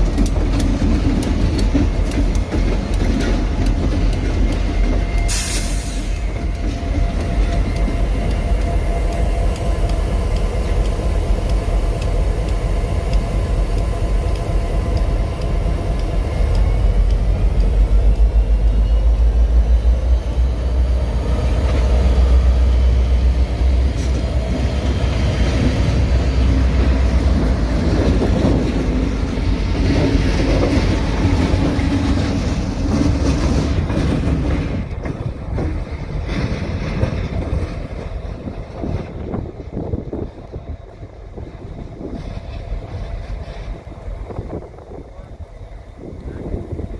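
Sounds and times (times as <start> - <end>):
freight train rumbling past: 0.0 - 46.9.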